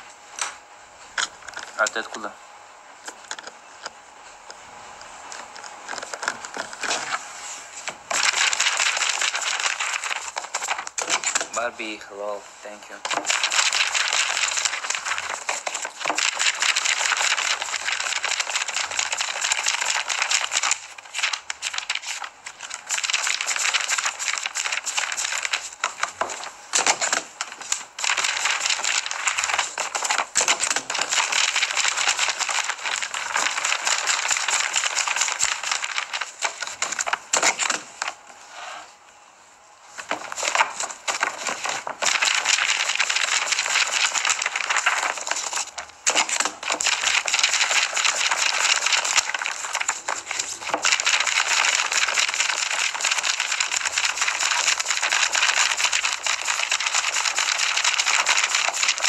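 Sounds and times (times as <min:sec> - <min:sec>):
paper rustling and flapping: 0:01.0 - 0:02.3, 0:05.0 - 0:38.7, 0:39.8 - 0:59.0.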